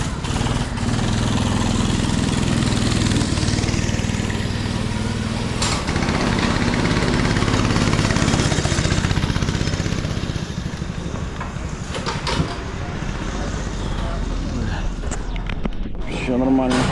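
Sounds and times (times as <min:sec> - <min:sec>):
go-kart engine running: 0:00.0 - 0:15.9.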